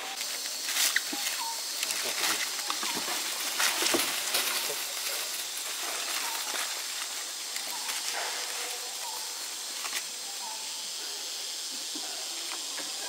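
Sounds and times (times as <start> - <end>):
high-pitched outdoor hiss: 0.0 - 13.0.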